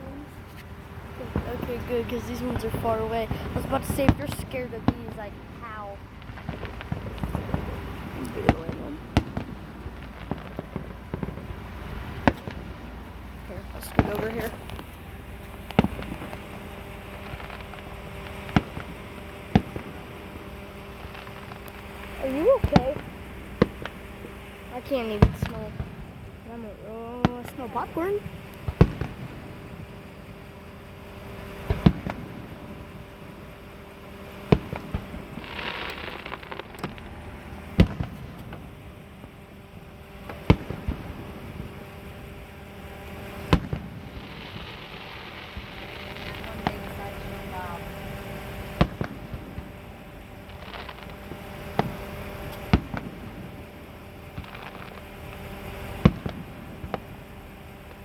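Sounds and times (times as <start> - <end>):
faint crackle: 0.0 - 58.0
fireworks bangs: 0.0 - 58.0
steady background hiss: 0.0 - 58.0
small firework pops: 0.1 - 5.4, 6.0 - 24.4, 25.0 - 26.1, 27.2 - 30.2, 31.4 - 32.8, 34.4 - 39.4, 40.2 - 58.0.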